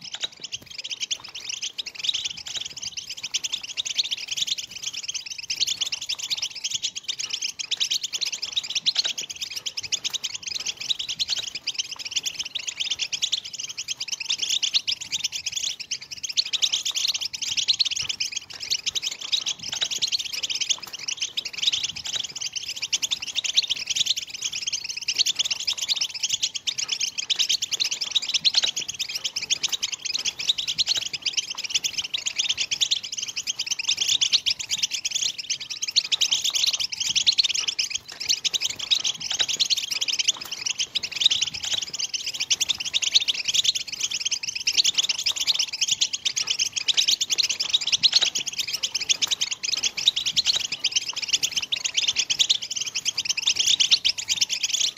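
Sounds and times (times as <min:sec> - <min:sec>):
goldfinches chattering: 0:00.0 - 0:54.9.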